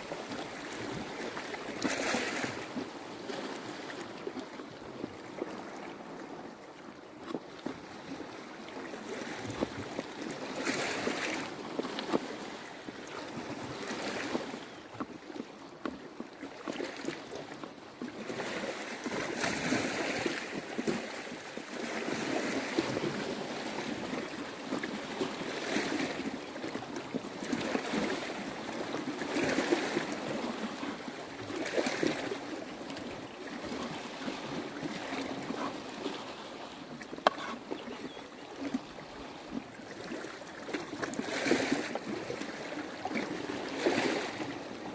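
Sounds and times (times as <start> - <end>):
sea waves on rocky shore: 0.0 - 44.9.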